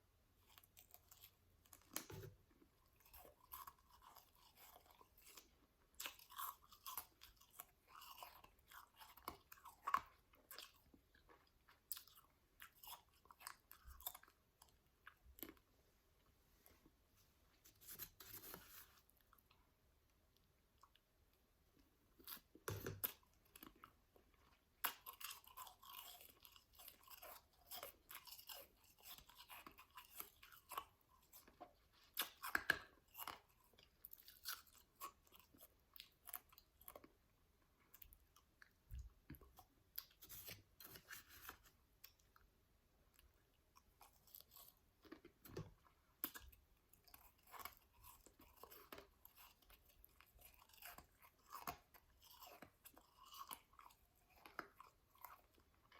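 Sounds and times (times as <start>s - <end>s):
person chewing shaved ice: 0.4s - 15.7s, 20.3s - 55.9s.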